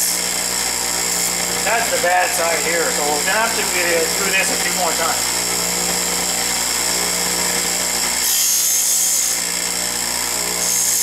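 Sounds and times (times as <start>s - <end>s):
high grinding hiss: 0.0s - 9.6s
bench grinder motor hum: 0.0s - 11.0s.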